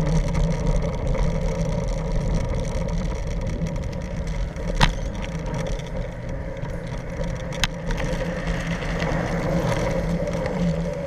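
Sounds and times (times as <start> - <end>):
skateboard wheels rolling on asphalt: 0.0 - 11.0.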